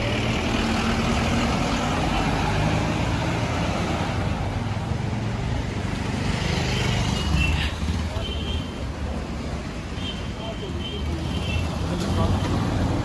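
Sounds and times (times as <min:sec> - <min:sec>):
road and traffic noise: 0:00.0 - 0:13.0.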